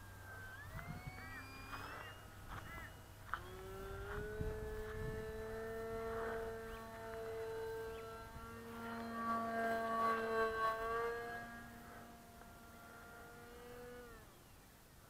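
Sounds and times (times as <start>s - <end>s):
model plane motor and propeller whining: 0.0s - 15.0s.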